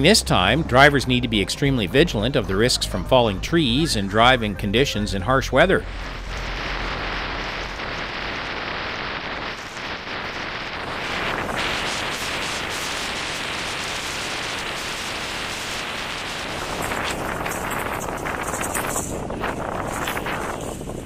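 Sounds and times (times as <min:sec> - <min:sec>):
storm wind buffeting microphone: 0:00.0 - 0:21.0
surf breaking on shore: 0:04.1 - 0:21.0.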